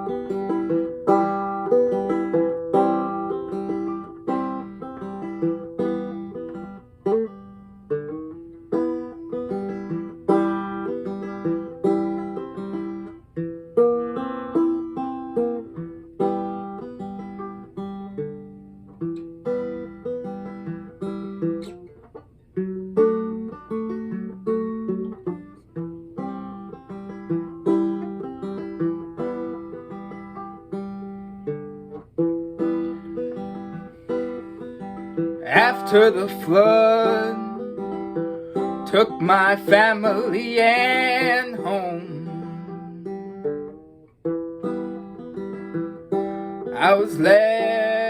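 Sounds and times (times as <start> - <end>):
picked acoustic string instrument: 0.0 - 48.0.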